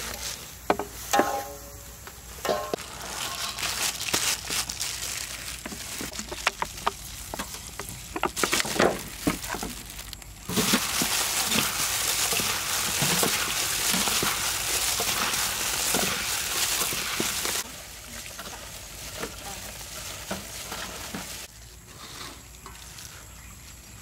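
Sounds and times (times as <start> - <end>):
wet crackling of vegetables mixing: 2.1 - 24.0
plastic gloves crinkling: 2.2 - 21.8.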